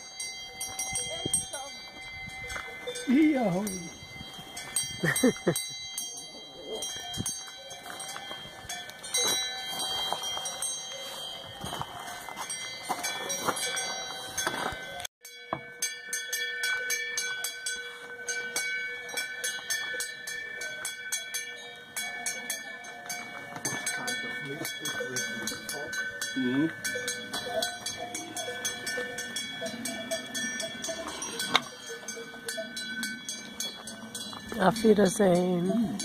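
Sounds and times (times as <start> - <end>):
cowbells clanking: 0.0 - 36.0.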